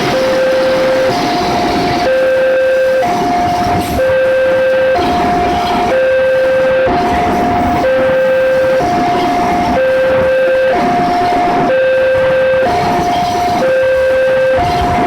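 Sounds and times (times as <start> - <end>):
rail traffic rumble: 0.0 - 15.0
two-tone crossing alarm: 0.0 - 15.0.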